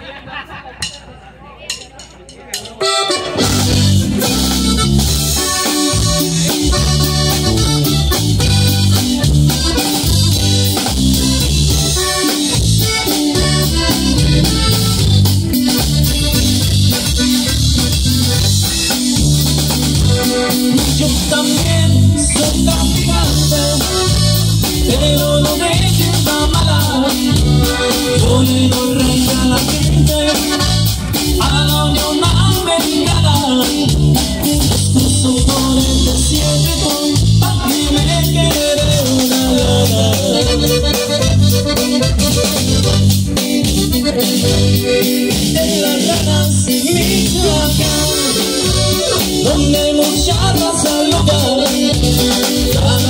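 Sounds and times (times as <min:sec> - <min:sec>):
bass: 0:00.0 - 0:53.0
drum kit: 0:00.0 - 0:53.0
guitar: 0:00.0 - 0:53.0
live band playing: 0:00.0 - 0:53.0
button accordion melody: 0:02.8 - 0:53.0.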